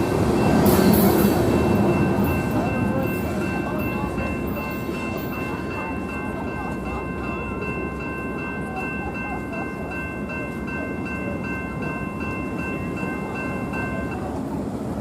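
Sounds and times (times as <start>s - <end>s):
railroad crossing bell ringing: 0.0s - 15.0s
train rumbling past: 0.0s - 15.0s.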